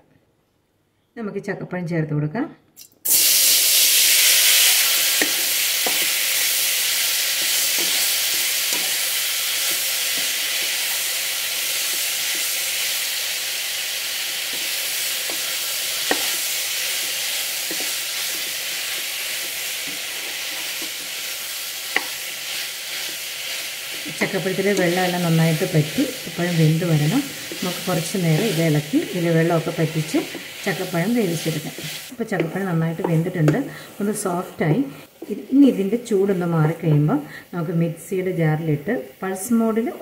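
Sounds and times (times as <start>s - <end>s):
fruit sizzling in a wok: 3.0s - 40.0s.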